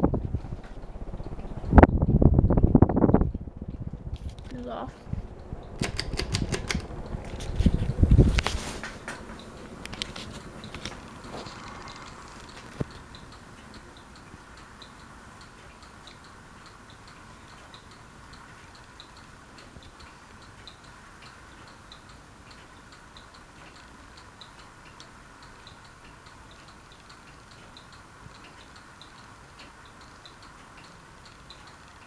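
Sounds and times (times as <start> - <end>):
low steady hum: 0.0 - 32.0
faint ticking: 3.2 - 32.0.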